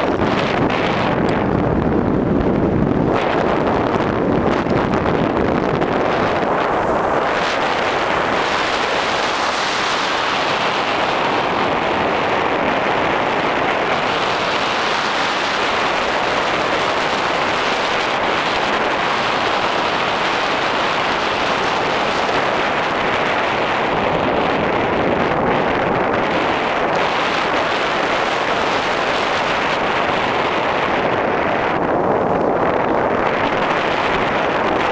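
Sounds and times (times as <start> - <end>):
wind noise on microphone: 0.0 - 34.9.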